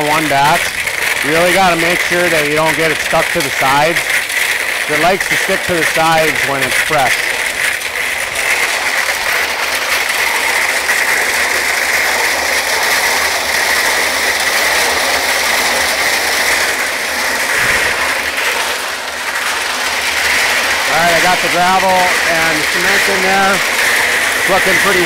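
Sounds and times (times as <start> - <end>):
gravel tumbling in mixer drum: 0.0 - 25.0
tractor engine humming: 0.0 - 25.0.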